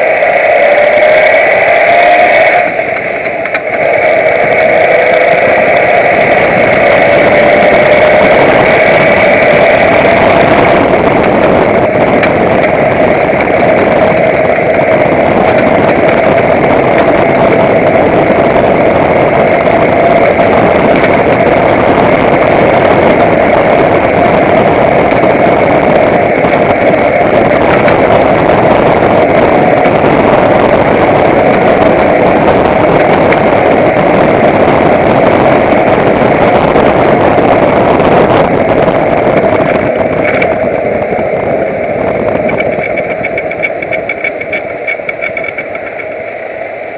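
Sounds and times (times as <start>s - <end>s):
steady high whine: 0.0s - 46.9s
truck engine running: 0.0s - 46.9s.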